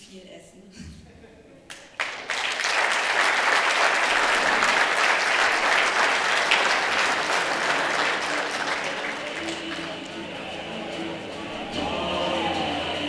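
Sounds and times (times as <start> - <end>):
guests applauding: 1.7 - 13.0.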